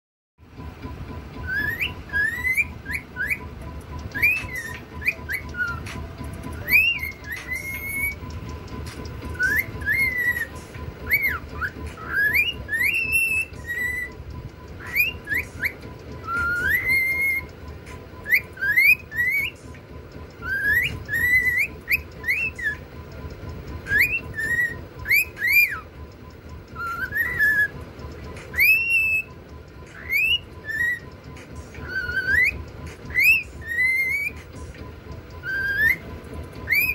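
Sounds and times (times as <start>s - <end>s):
cockatiel whistling: 0.6s - 36.9s.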